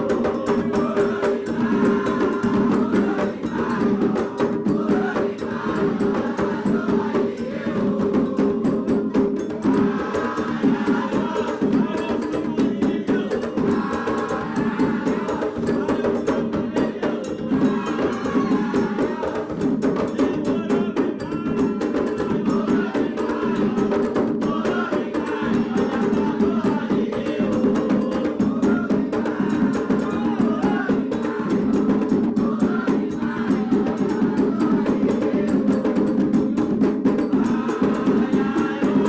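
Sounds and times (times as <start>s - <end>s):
hand drums playing rhythm: 0.0s - 39.0s
other percussion: 0.0s - 39.0s
voices singing: 0.0s - 39.0s.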